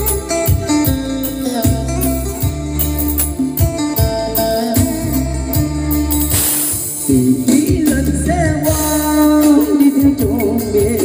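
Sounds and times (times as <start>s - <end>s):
bass and drum backing: 0.0s - 11.0s
keyboard lead melody: 0.0s - 11.0s.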